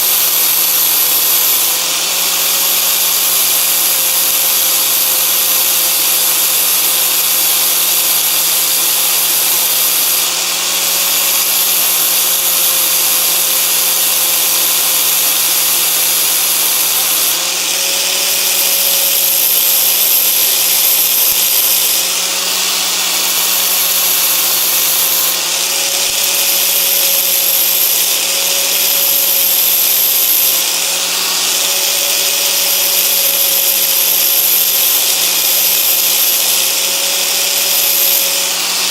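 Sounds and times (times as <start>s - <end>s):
angle grinder grinding metal: 0.0s - 38.9s.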